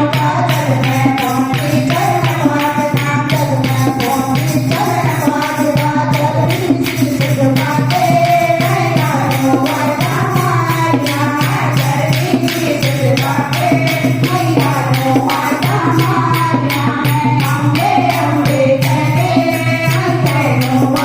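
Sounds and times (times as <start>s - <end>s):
quick percussion beat: 0.0s - 21.0s
voices singing devotional song: 0.0s - 21.0s.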